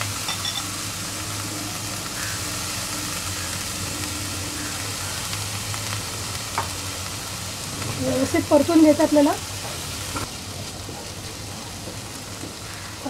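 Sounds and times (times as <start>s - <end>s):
shrimp sizzling in hot oil: 0.0s - 13.0s.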